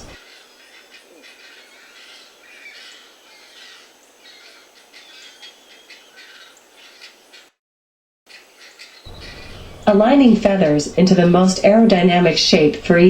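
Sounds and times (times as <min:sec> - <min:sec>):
songbirds chirping and singing: 0:00.0 - 0:07.5, 0:08.3 - 0:13.0.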